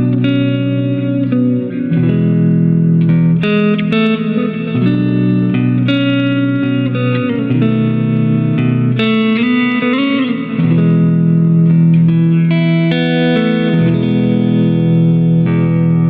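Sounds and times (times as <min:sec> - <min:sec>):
slow calm instrumental music: 0:00.0 - 0:16.0.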